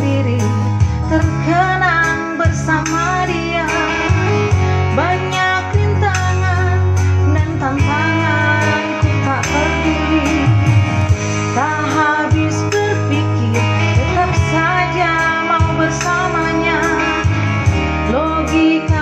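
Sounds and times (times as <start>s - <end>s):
guitar: 0.0s - 19.0s
steady bass: 0.0s - 19.0s
woman singing a ballad: 0.0s - 19.0s.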